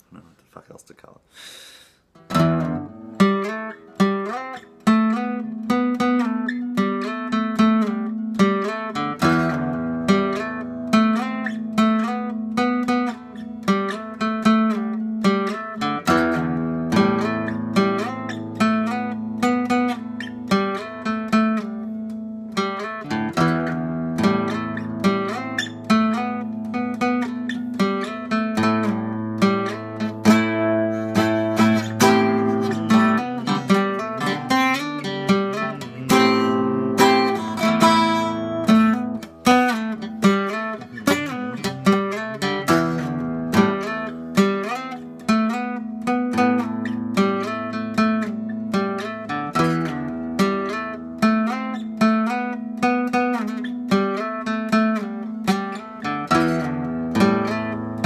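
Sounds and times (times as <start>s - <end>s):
acoustic guitar picking and strumming: 2.1s - 58.0s.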